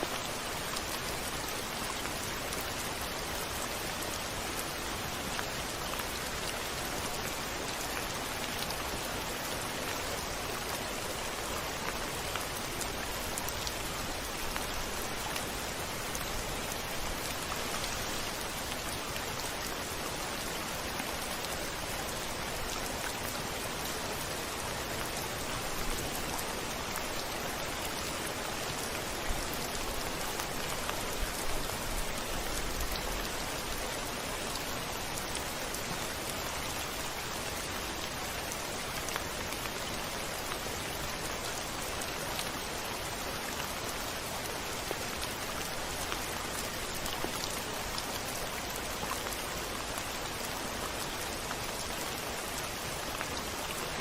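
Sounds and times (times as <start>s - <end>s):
rain on a window: 0.0s - 54.0s.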